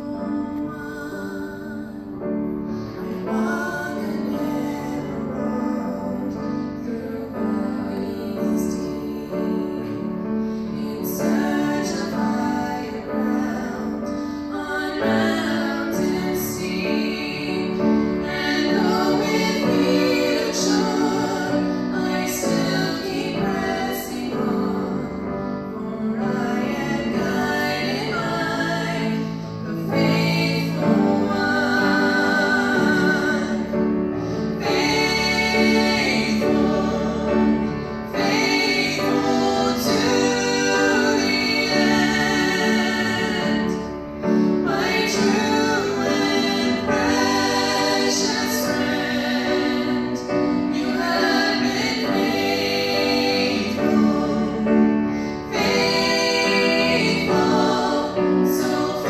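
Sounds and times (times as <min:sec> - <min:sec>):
women singing gospel: 0:00.0 - 0:59.0.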